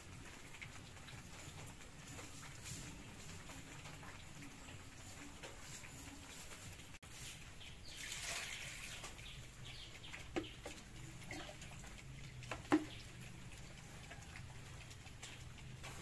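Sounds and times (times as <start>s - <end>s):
water sloshing in bucket: 1.0s - 16.0s.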